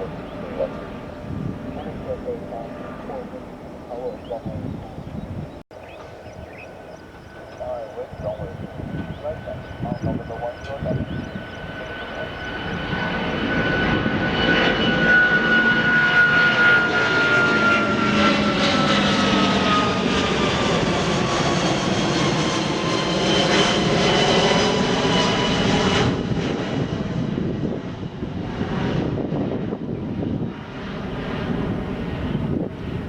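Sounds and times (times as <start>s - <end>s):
jet engines passing by: 0.0s - 33.0s.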